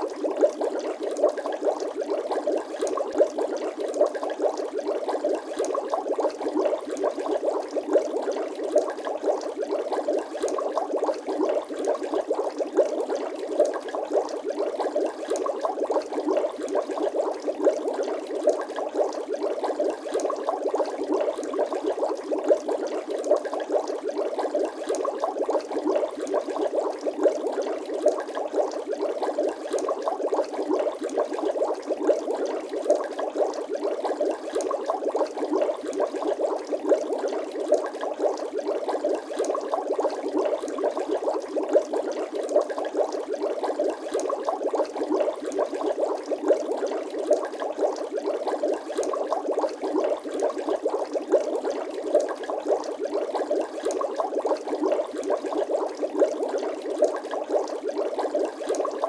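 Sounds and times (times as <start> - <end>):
water bubbling: 0.0 - 59.0.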